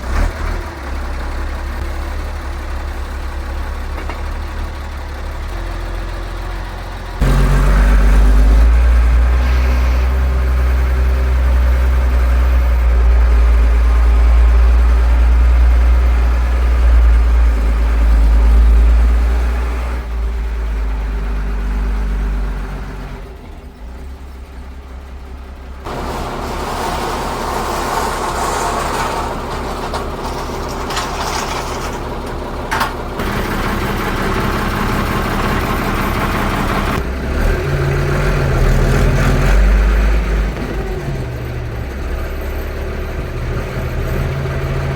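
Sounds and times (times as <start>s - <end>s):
engine running with low rumble: 0.0s - 44.9s.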